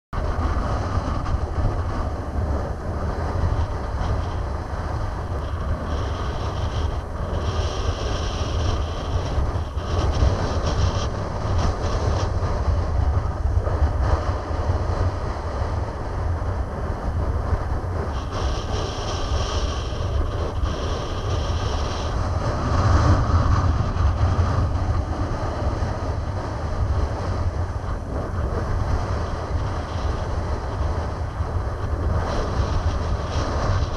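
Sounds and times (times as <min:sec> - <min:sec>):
wind buffeting microphone: 0:00.1 - 0:33.9.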